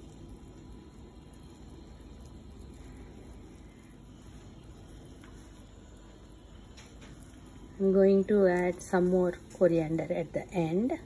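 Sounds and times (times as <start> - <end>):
pot boiling with low bubbling: 0.0 - 11.0.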